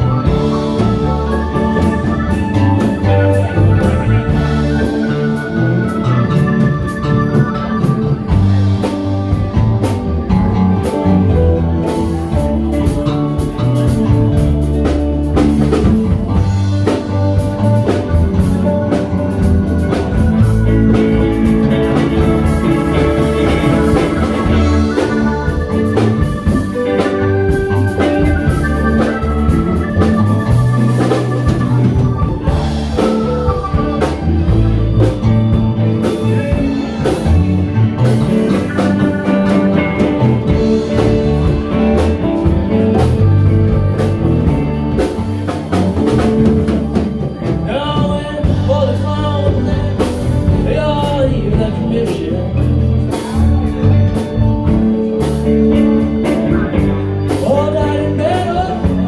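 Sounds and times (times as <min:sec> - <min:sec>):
live band playing: 0:00.0 - 0:59.0.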